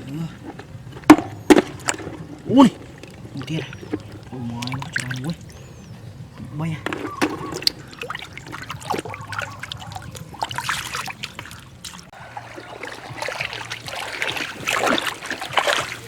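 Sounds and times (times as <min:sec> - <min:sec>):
floodwater splashing and trickling: 0:00.0 - 0:16.0.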